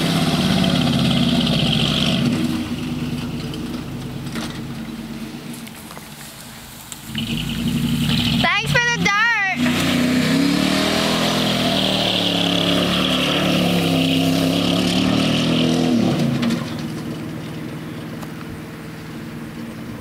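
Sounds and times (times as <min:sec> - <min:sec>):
pickup truck engine revving: 0:00.0 - 0:05.4, 0:07.1 - 0:20.0.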